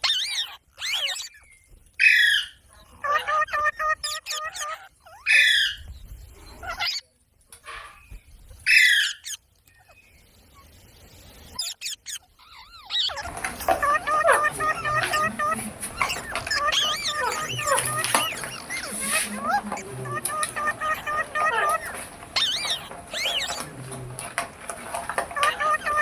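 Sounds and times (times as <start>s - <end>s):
parrot chattering and warbling: 0.0s - 5.8s, 6.6s - 7.1s, 8.6s - 9.9s, 11.5s - 26.0s
parrot squawking: 0.0s - 5.8s, 6.6s - 7.0s, 8.7s - 9.4s, 11.5s - 26.0s.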